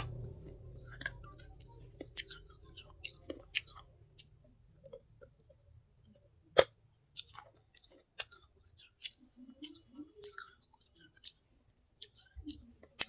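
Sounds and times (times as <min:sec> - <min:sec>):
chewing crunchy clay pieces: 0:00.0 - 0:13.0.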